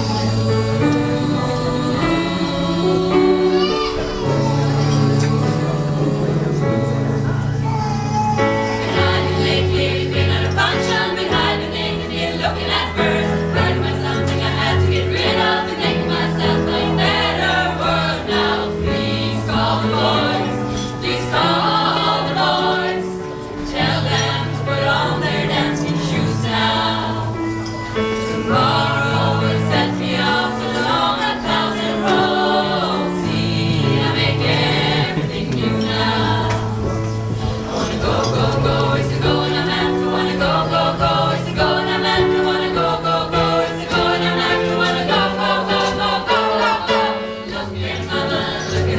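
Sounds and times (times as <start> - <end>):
choir singing: 0.0 - 7.8, 8.4 - 48.9.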